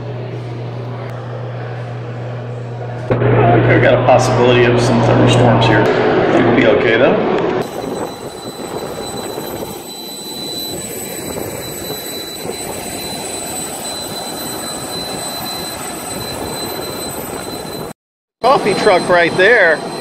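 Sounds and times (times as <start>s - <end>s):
jet turbine whine: 0.0s - 20.0s.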